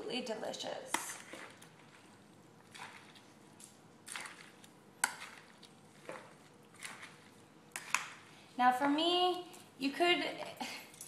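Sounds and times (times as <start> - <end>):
utensils tossing pasta in bowl: 0.9 - 9.8.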